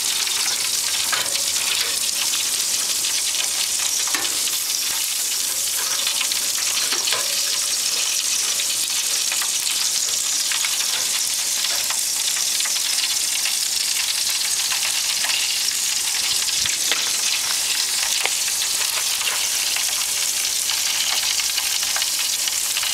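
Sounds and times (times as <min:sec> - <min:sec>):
charcoal crackles and pops: 0:00.0 - 0:22.9
meat sizzling on a grill: 0:00.0 - 0:22.9.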